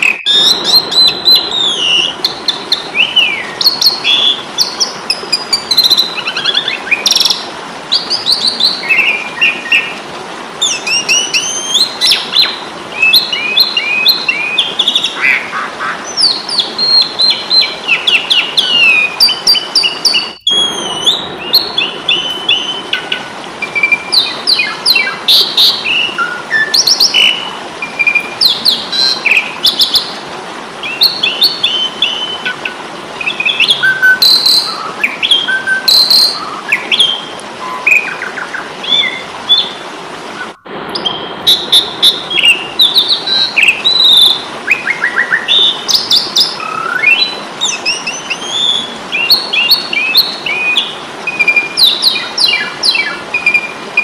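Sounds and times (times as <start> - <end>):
starling singing: 0.0 - 10.0, 10.6 - 30.2, 30.8 - 39.8, 40.4 - 54.0
steady hiss: 0.0 - 54.0.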